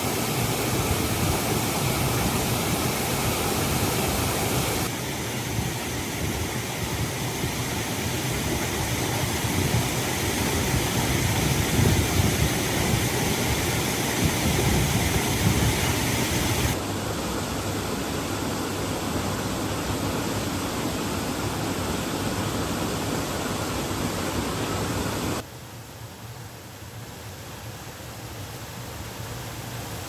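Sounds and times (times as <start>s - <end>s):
heavy rain hissing: 0.0s - 25.4s.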